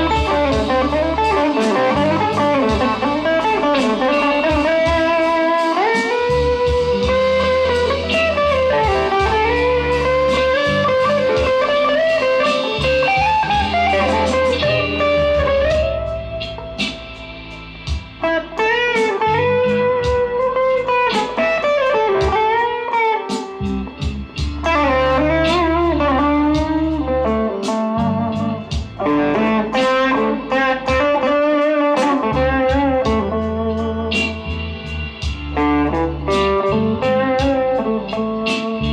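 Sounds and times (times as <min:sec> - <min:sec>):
low bass part: 0:00.0 - 0:05.4, 0:06.3 - 0:22.5, 0:23.6 - 0:31.2, 0:32.4 - 0:38.9
bluesy electric guitar lead: 0:00.0 - 0:38.9.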